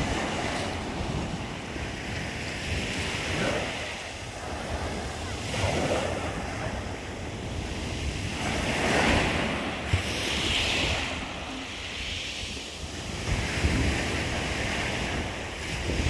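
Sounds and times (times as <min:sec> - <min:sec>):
waves breaking on shore: 0:00.0 - 0:16.0
wind buffeting microphone: 0:00.0 - 0:16.0.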